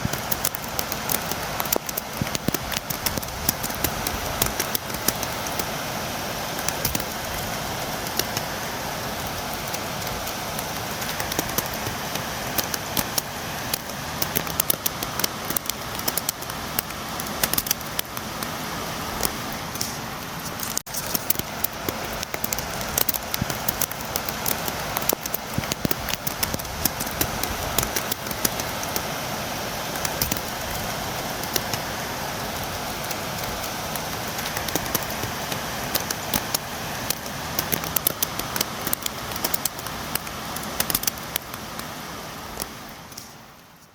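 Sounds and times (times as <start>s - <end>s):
raindrops ticking on hard surface: 0.0s - 43.9s
steady rain: 0.0s - 43.9s.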